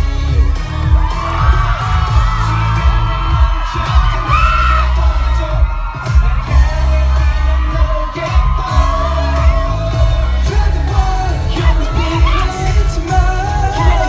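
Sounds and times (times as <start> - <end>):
backing track with pounding bass: 0.0 - 14.0
men singing into microphones: 1.3 - 14.0.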